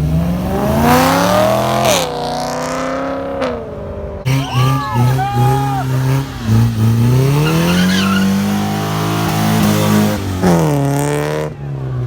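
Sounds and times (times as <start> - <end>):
car engine revving hard: 0.0 - 11.6.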